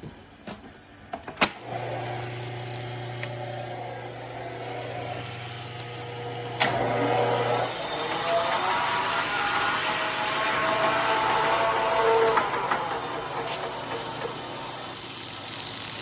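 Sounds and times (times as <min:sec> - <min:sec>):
metal lathe running: 0:01.8 - 0:16.0.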